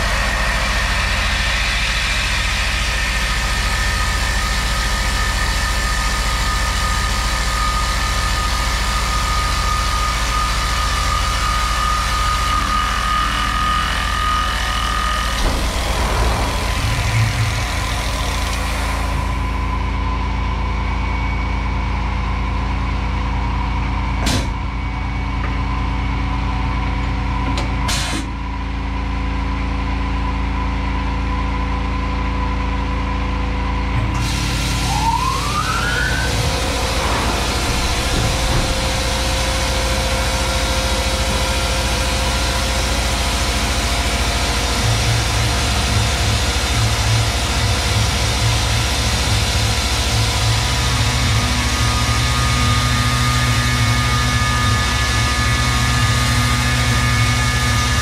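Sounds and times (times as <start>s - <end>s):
machine hum: 0.0s - 27.8s, 28.7s - 58.0s
mill spindle whine and hiss: 0.0s - 28.4s, 33.5s - 58.0s.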